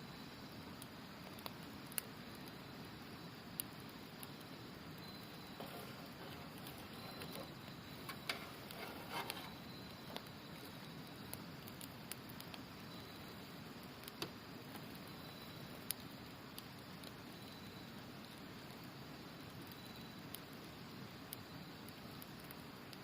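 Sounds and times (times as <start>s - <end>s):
campfire crackling: 0.0s - 23.0s
faint insect trill: 0.0s - 23.0s
burning wood popping: 0.5s - 23.0s.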